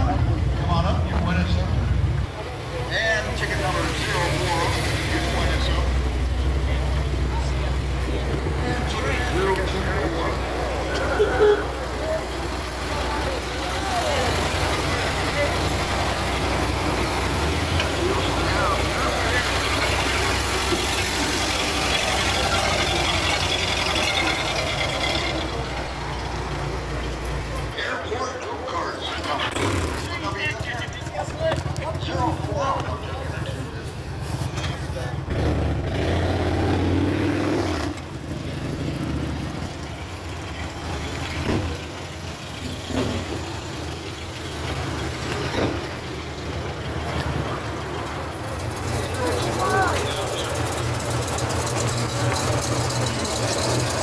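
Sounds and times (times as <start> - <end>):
background noise: 0.0 - 54.0
vehicle engine idling: 0.0 - 54.0.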